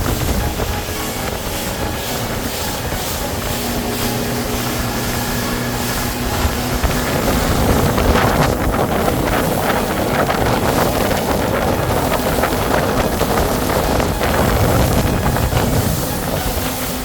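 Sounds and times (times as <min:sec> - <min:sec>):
motorboat engine running: 0:00.0 - 0:17.0
wind rushing over microphone: 0:00.0 - 0:17.0.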